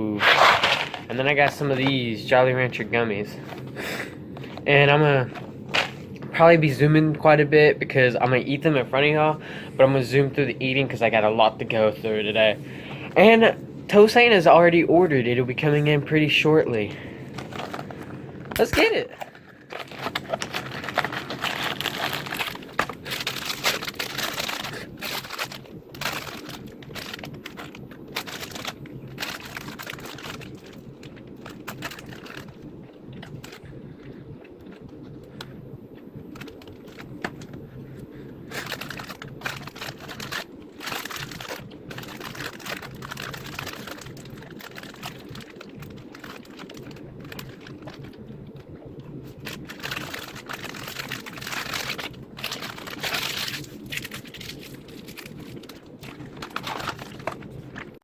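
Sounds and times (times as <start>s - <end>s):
plastic wrappers crinkling: 0.1s - 7.3s, 15.2s - 33.8s, 36.3s - 58.0s.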